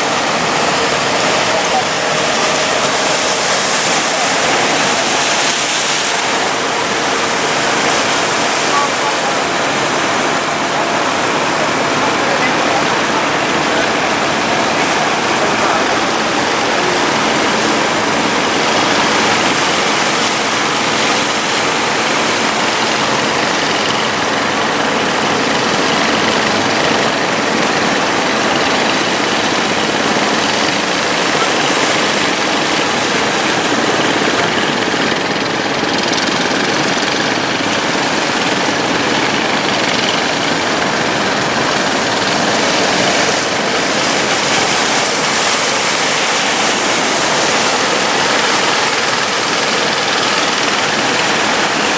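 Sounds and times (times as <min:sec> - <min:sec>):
boat engine running: 0:00.0 - 0:51.9
rough sea: 0:00.0 - 0:51.9
wind: 0:00.0 - 0:51.9.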